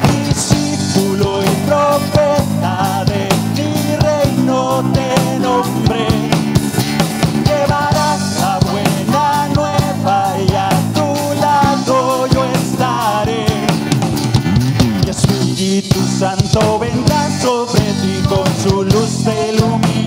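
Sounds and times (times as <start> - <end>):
man singing: 0.0 - 6.6, 7.2 - 14.0, 14.8 - 20.0
bass guitar: 0.0 - 20.0
drum kit: 0.0 - 20.0.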